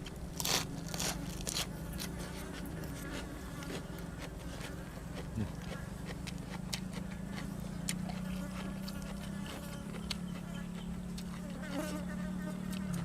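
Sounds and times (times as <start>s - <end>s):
crunching and chewing: 0.0s - 13.0s.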